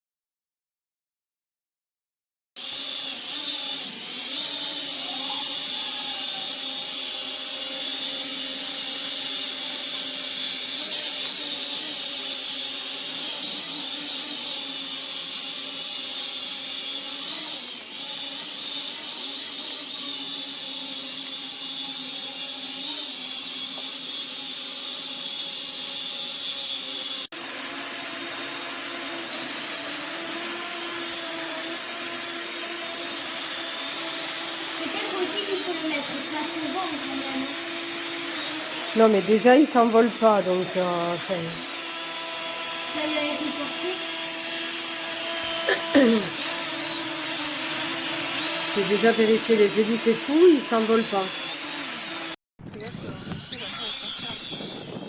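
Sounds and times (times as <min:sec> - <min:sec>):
toy drone motors whining: 0:02.6 - 0:55.0.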